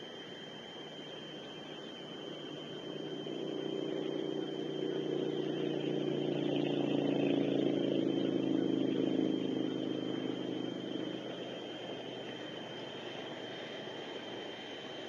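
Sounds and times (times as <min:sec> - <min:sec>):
passing engine: 0:02.8 - 0:15.0.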